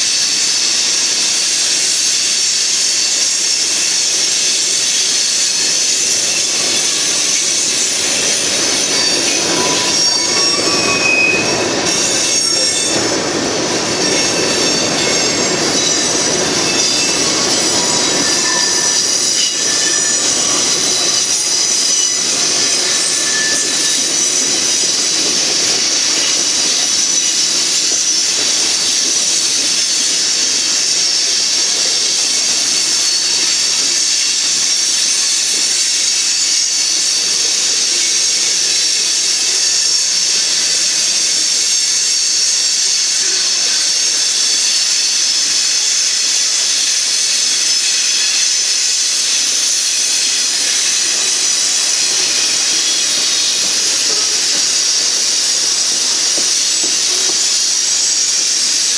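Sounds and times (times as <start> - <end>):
train wheels rushing on rail: 0.0 - 58.9
wheels squealing: 0.1 - 58.9.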